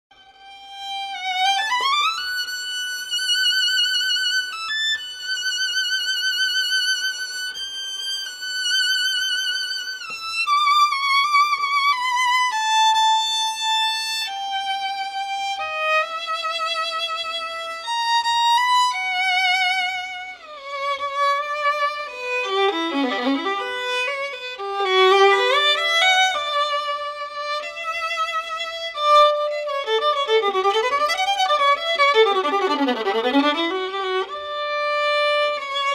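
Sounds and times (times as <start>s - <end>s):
solo violin melody: 0.1s - 35.9s.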